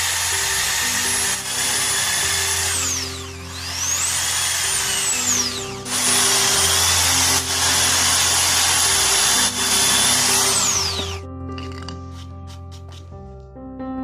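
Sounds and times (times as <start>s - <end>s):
electric drill whine: 0.0s - 11.2s.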